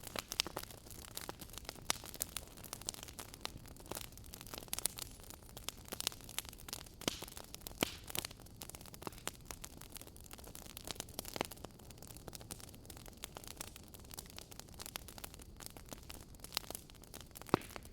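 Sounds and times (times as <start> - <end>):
faint steady hiss: 0.0 - 17.9
fire crackling and popping: 0.0 - 17.9.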